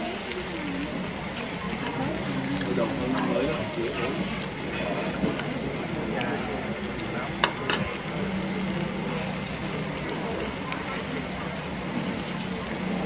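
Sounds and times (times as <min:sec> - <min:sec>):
background chatter: 0:00.0 - 0:13.0
meat sizzling on a grill: 0:00.0 - 0:13.0.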